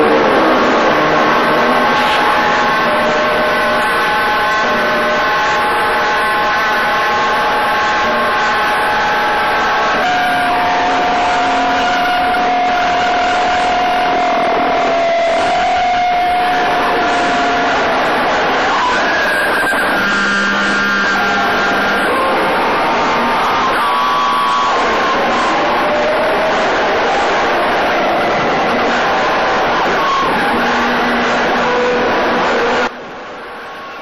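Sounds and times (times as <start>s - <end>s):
droning hum: 0.0s - 34.0s.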